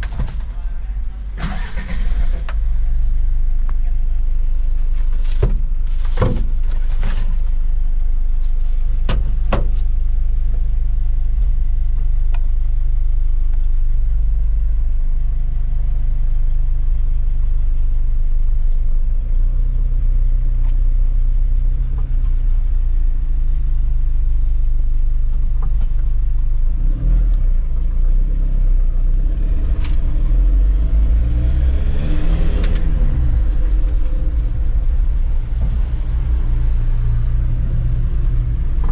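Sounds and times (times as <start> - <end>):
diesel engine running and revving: 0.0 - 38.9.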